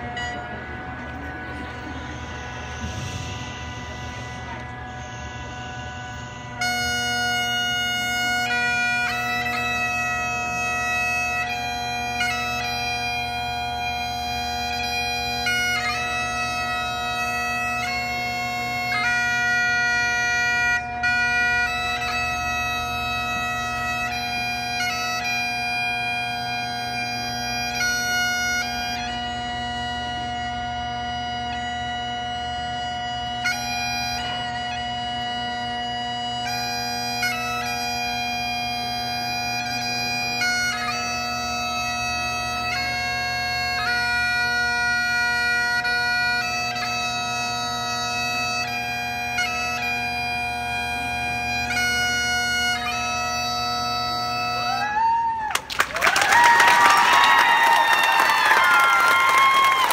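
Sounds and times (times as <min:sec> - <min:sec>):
bagpipe chanter melody: 0:00.0 - 0:59.9
bagpipe drones: 0:00.0 - 0:59.9.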